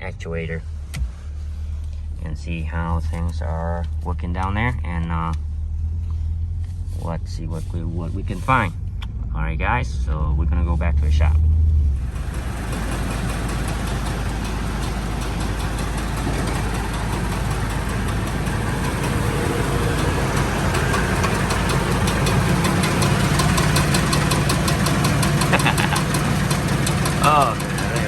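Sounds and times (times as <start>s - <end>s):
pickup engine running: 0.4s - 28.0s.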